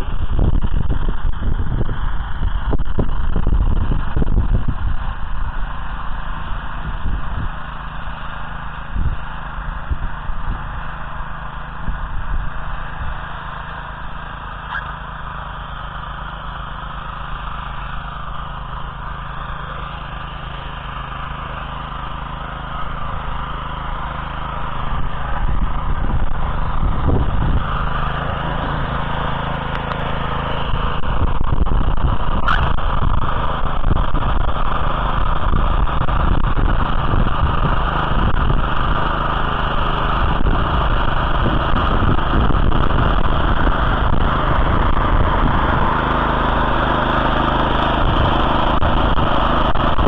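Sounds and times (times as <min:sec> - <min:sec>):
small petrol engine running: 0:00.0 - 0:50.0.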